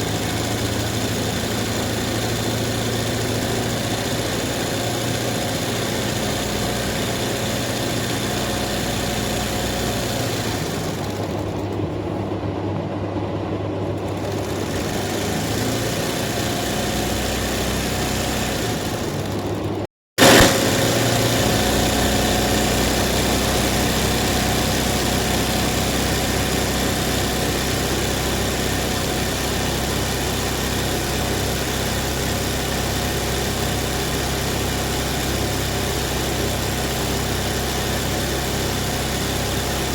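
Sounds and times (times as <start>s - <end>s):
embroidery machine humming and rattling: 0.0s - 39.9s.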